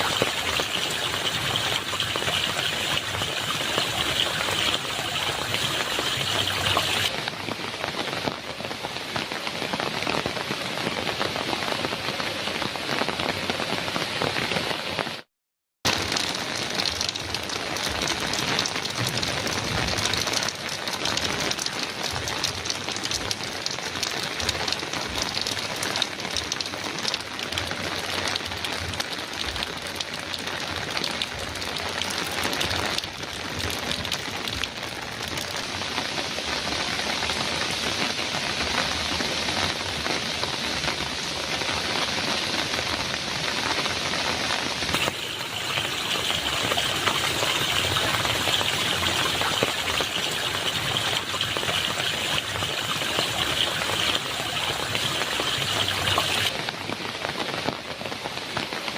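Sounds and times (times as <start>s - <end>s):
heavy rain on a metal roof: 0.0s - 15.3s, 15.9s - 58.9s.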